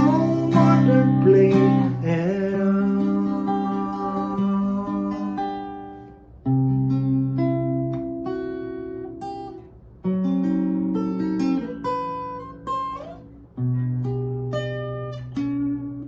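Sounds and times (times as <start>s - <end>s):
guitar chords ringing: 0.0s - 16.0s.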